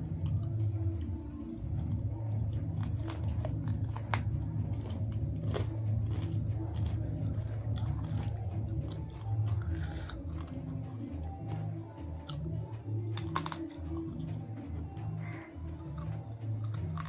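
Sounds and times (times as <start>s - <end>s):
chewing food: 0.0s - 17.0s
wet mouth sounds: 0.0s - 17.0s
sharp crunches and clicks: 2.0s - 17.0s.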